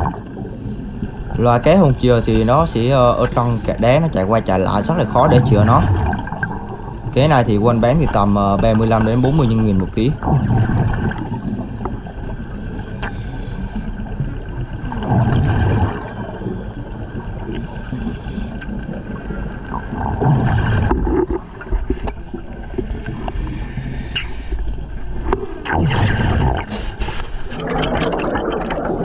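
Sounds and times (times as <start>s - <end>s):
exhaled air bubbles gurgling: 0.0s - 13.2s, 14.0s - 23.4s, 25.1s - 29.0s
underwater low rumble: 0.0s - 29.0s.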